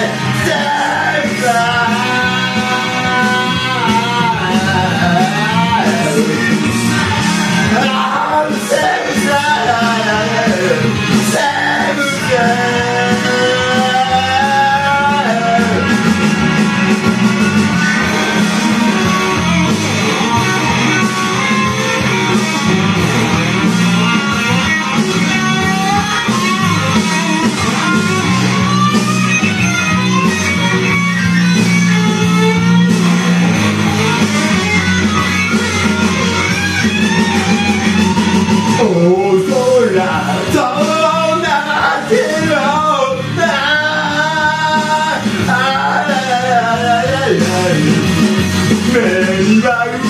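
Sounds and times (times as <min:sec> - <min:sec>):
backing music: 0:00.0 - 0:50.0
bass guitar: 0:00.0 - 0:50.0
electric guitar: 0:00.0 - 0:50.0
man singing karaoke: 0:00.0 - 0:50.0
steady drum beat: 0:00.0 - 0:50.0.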